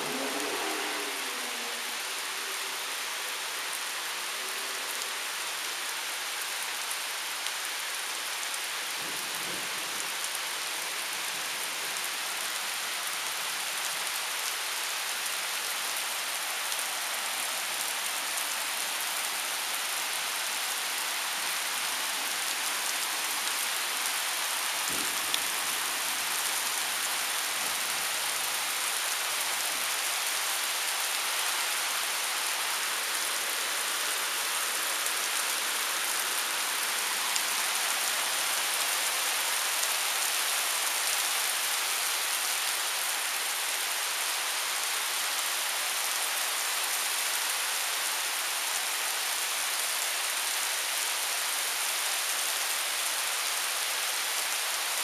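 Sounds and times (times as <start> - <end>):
heavy rain on pavement and leaves: 0.0 - 55.0.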